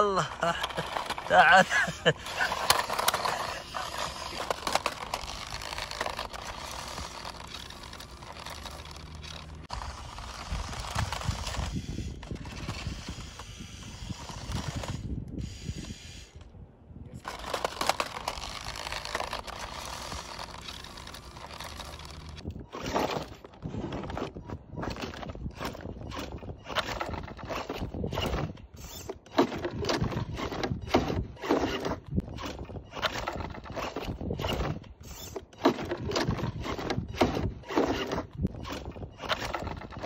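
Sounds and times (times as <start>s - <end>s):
wheels crunching over gravel: 0.0s - 16.0s, 17.2s - 40.0s
toy motor and gears whirring: 0.0s - 16.6s, 17.2s - 40.0s.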